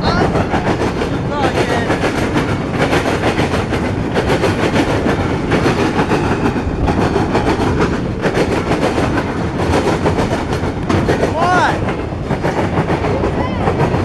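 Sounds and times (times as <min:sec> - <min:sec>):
freight train cars rumbling past: 0:00.0 - 0:14.0
wheel clacks over rail joints: 0:00.0 - 0:14.0.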